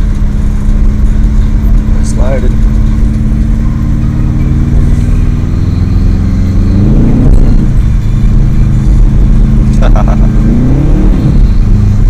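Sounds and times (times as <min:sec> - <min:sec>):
car engine running and revving: 0:00.0 - 0:12.0.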